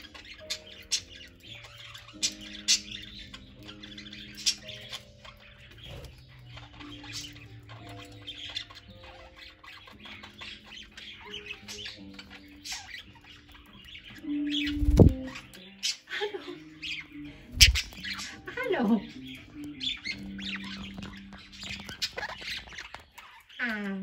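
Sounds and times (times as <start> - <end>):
bird squawk: 0.0 - 24.0
budgerigars chattering: 0.0 - 24.0.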